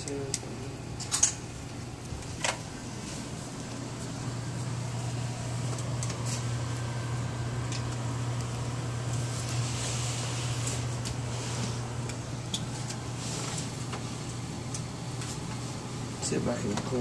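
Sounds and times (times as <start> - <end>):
air handler blower humming: 0.0 - 17.0.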